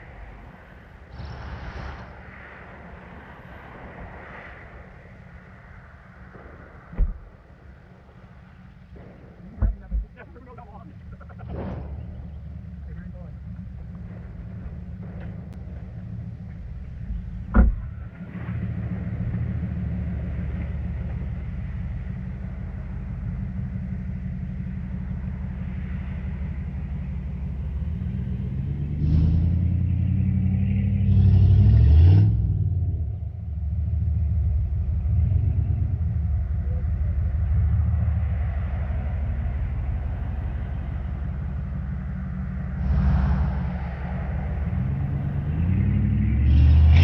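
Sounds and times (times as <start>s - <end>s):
off-road vehicle engine revving: 0.0s - 3.1s, 8.1s - 47.0s
car engine idling: 0.0s - 47.0s.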